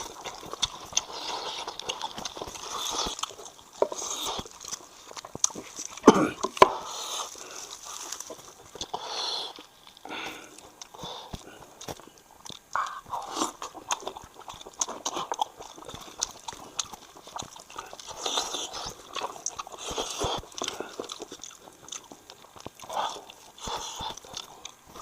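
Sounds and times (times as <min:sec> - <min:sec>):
person chewing: 0:00.0 - 0:25.0.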